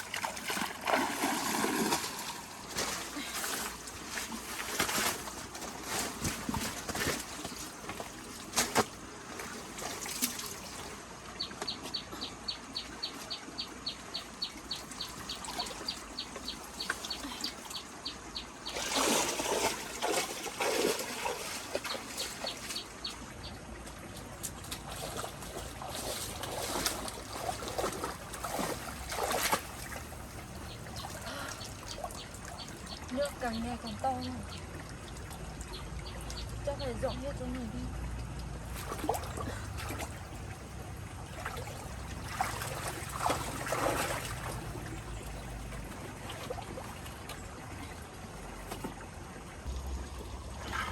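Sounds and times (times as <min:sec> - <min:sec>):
floodwater trickling and splashing: 0:00.0 - 0:50.9.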